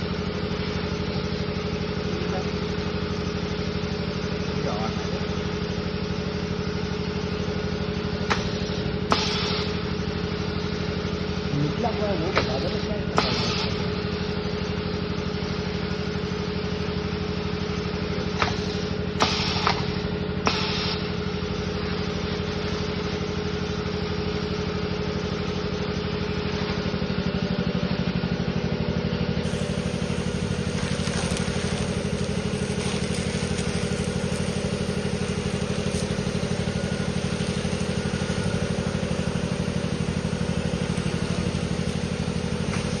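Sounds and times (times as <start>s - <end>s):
machine motor hum: 0.0s - 43.0s.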